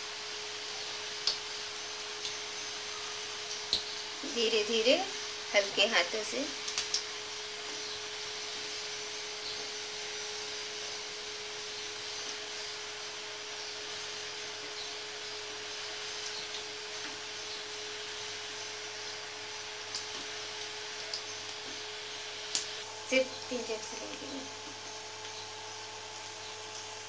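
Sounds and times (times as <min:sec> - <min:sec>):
food deep-frying in hot oil: 0:00.0 - 0:27.0
steady hum: 0:00.0 - 0:27.0.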